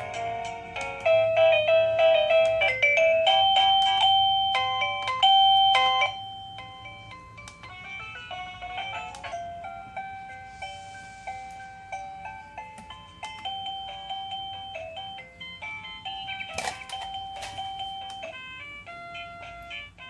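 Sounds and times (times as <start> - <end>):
doorbell electronic melody chime: 0.0 - 20.0.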